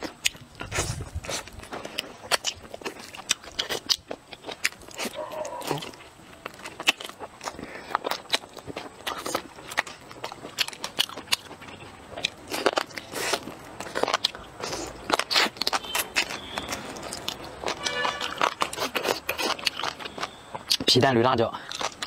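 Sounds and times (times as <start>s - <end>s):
person chewing sticky meat: 0.0s - 22.0s.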